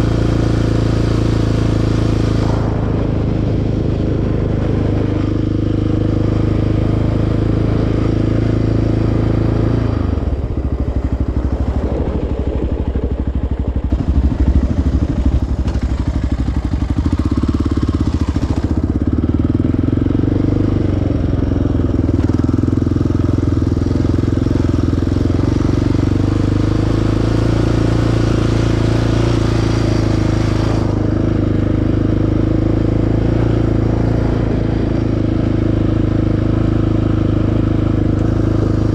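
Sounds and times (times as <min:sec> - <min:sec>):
atv engine running: 0:00.0 - 0:38.9
engine throttle blips: 0:00.0 - 0:38.9.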